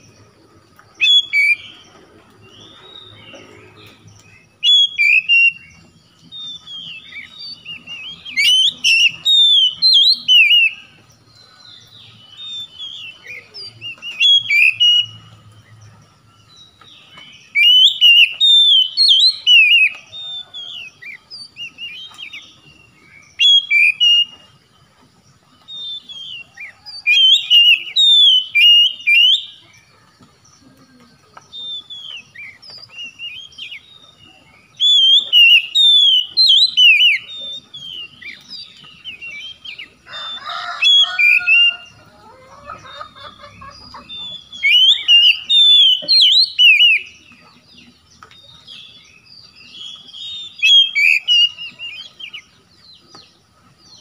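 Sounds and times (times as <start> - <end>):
bird singing whistled notes: 0.0 - 24.6, 25.5 - 54.0.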